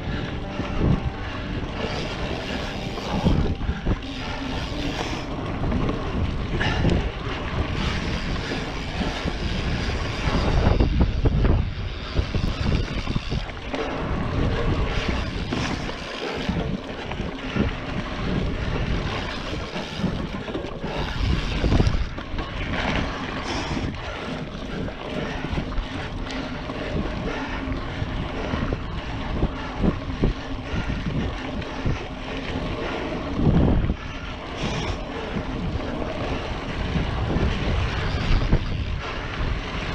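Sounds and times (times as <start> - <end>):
bike rattling and clicking: 0.0 - 39.9
bike tyres on dirt trail: 0.0 - 39.9
wind rumbling on microphone: 0.0 - 39.9.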